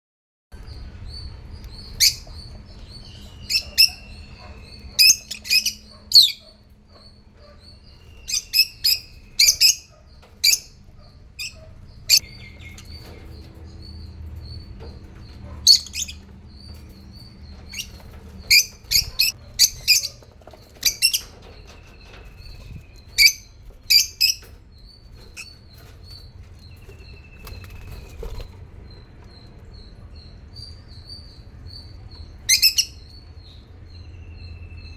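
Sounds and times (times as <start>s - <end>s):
lovebirds chirping: 0.6s - 34.9s
low background hum: 0.6s - 34.9s.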